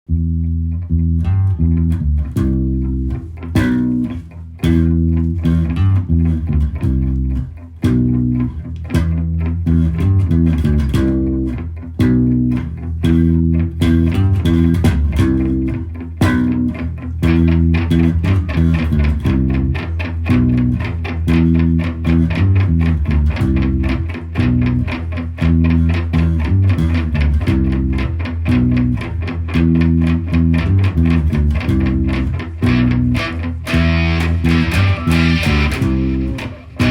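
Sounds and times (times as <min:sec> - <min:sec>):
guitar and bass music with beat: 0:00.1 - 0:36.9.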